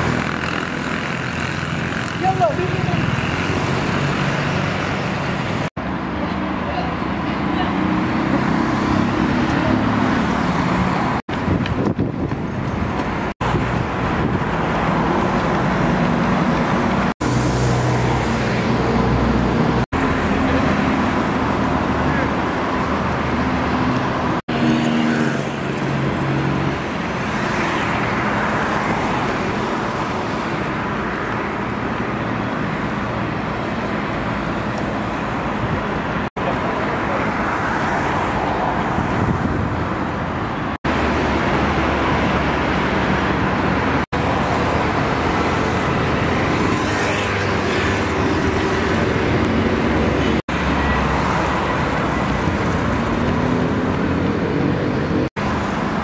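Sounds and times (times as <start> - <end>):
road and traffic noise: 0.0 - 56.0.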